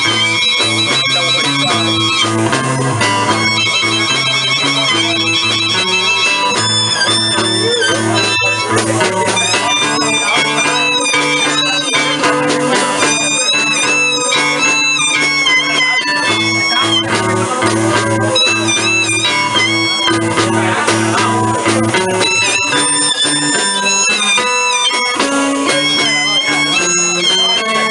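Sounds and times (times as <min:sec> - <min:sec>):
guitar accompaniment: 0:00.0 - 0:27.9
harmonica playing bent notes: 0:00.0 - 0:27.9.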